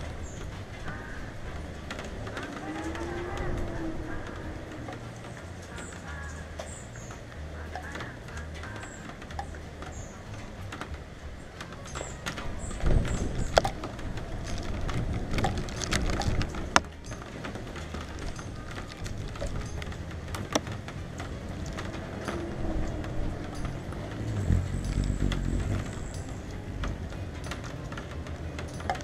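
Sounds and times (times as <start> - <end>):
raindrops tapping on camera cover: 0.0 - 29.0
wind gusting against microphone: 0.0 - 29.0.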